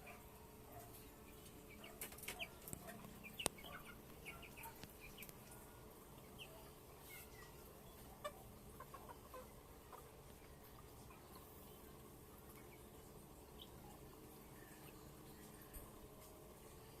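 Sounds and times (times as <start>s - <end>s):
chickens clucking: 0.0s - 16.5s.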